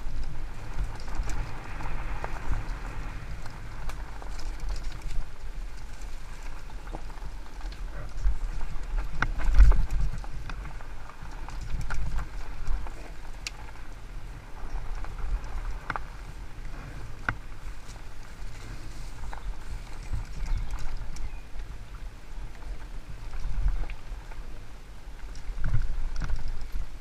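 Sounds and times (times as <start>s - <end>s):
bike rattling over rocks: 0.0s - 27.0s
wind and trail vibration rumble: 0.0s - 27.0s.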